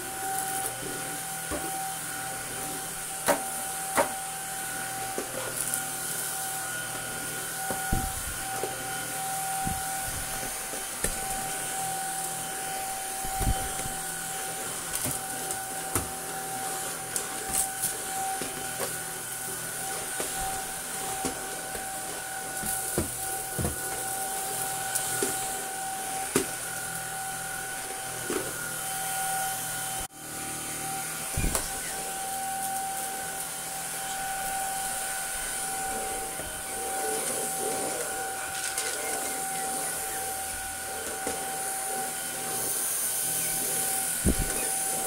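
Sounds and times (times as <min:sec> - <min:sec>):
stick vacuum whining: 0:00.0 - 0:45.0.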